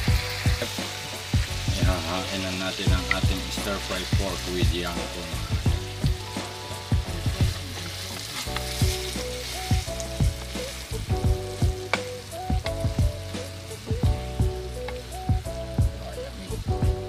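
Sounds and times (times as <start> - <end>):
background music with beat: 0.0 - 17.0
food sizzling: 0.0 - 17.0.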